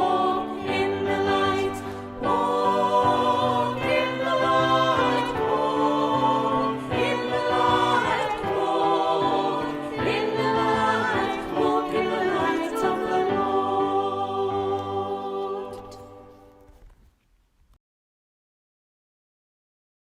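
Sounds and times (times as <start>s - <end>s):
group singing a hymn: 0.0s - 16.4s.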